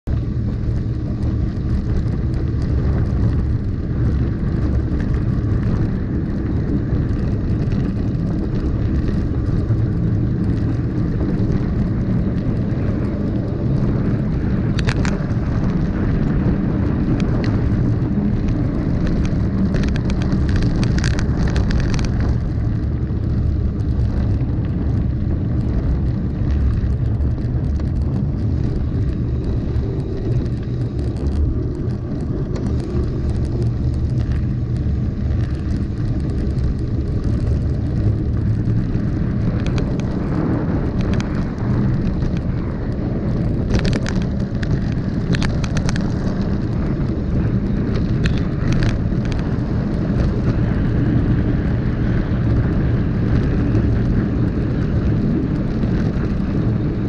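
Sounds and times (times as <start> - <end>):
bike rolling on gravel road: 0.0 - 57.0
wind buffeting microphone: 0.0 - 57.0
bike rattling: 0.1 - 57.0.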